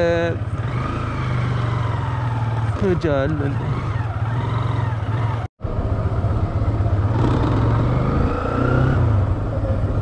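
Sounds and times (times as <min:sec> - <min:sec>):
motorcycle engine running: 0:00.0 - 0:10.0
road noise: 0:00.0 - 0:10.0.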